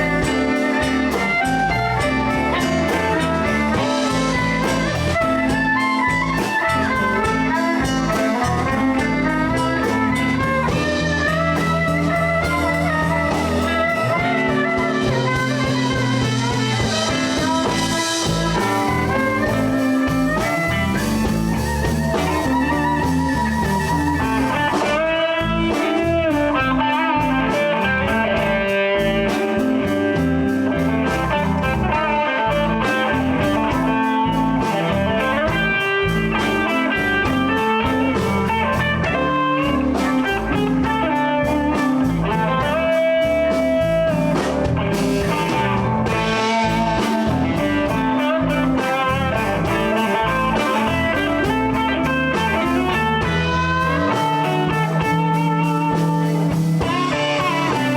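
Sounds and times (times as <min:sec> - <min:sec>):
bass guitar: 0:00.0 - 0:57.9
drums: 0:00.0 - 0:57.9
electric guitar with bent notes: 0:00.0 - 0:57.9.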